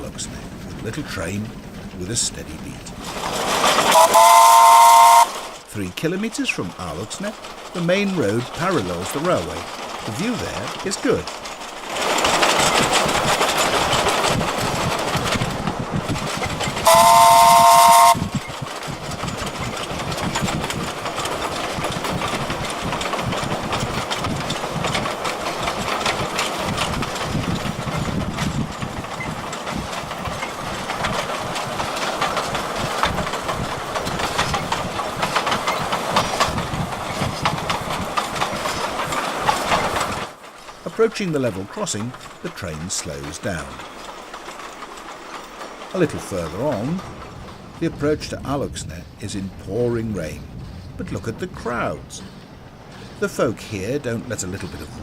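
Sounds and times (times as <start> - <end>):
steam locomotive running: 0.0 - 55.0.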